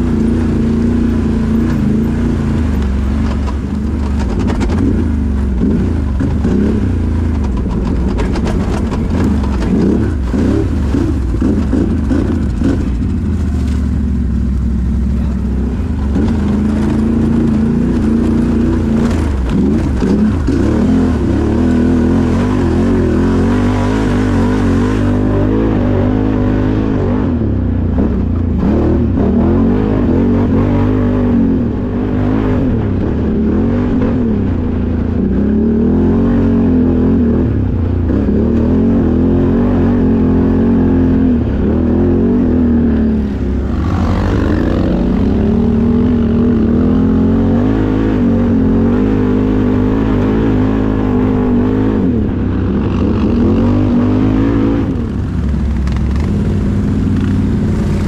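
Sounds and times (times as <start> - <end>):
engine revving under load: 0.0 - 13.8, 15.0 - 58.0.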